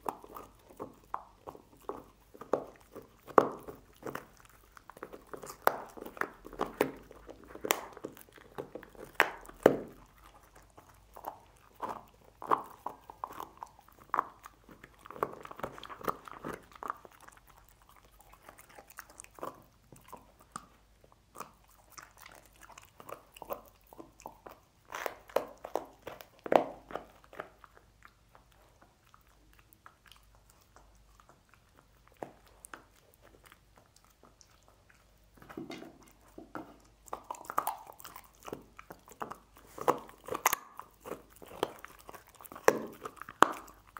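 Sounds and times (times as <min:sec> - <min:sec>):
dog crunching bones: 0:00.0 - 0:43.9.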